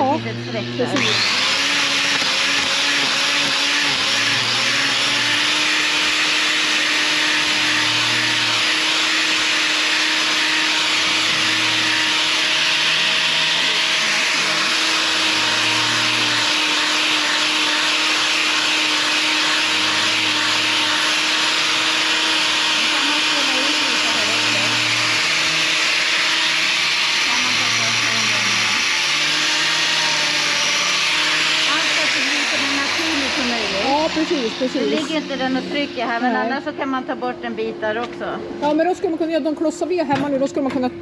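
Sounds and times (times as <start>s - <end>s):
electric grinder grinding hoof: 0.0s - 41.0s.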